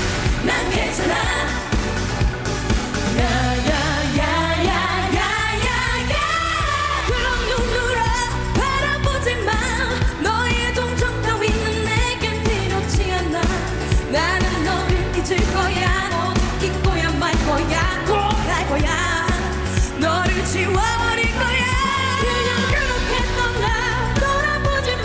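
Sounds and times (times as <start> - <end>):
band playing a steady beat: 0.0 - 24.9
women singing into microphones: 0.4 - 1.8, 3.1 - 25.0.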